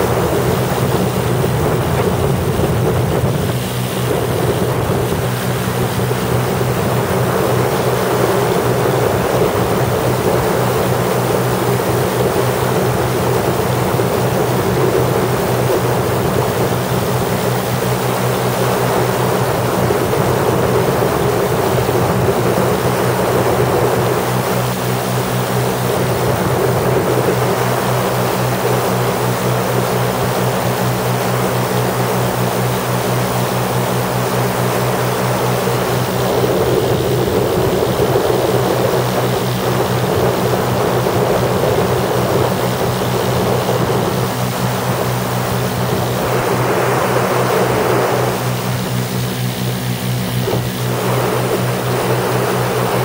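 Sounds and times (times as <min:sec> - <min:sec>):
aircraft engines droning: 0:00.0 - 0:53.0
wind on microphone: 0:00.0 - 0:53.0.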